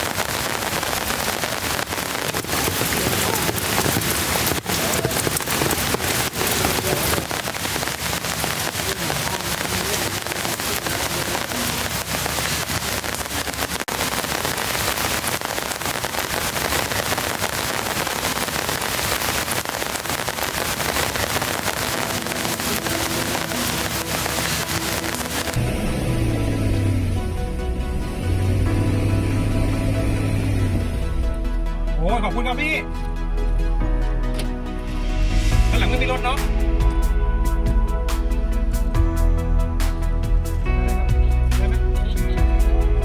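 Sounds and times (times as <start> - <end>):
heavy rain pouring: 0.0 - 33.6, 34.3 - 40.6.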